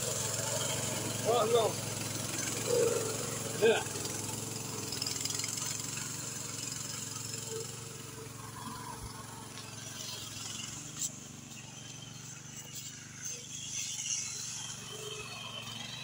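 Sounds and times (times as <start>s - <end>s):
small tractor engine running: 0.0s - 16.0s.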